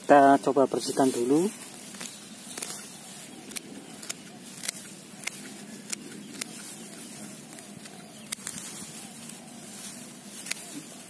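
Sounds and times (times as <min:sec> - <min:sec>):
grass rustling: 0:00.0 - 0:11.0
pruning shears snipping: 0:00.8 - 0:11.0.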